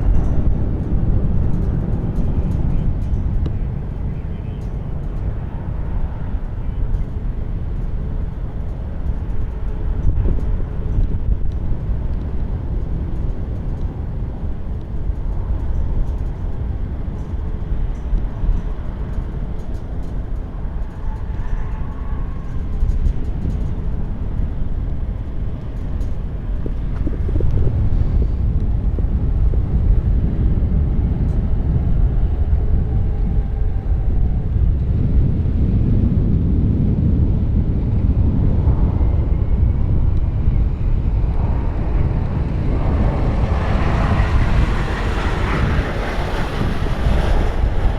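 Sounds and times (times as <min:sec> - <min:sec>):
jet aircraft engines rumbling: 0:00.0 - 0:47.9
wind buffeting microphone: 0:00.0 - 0:47.9.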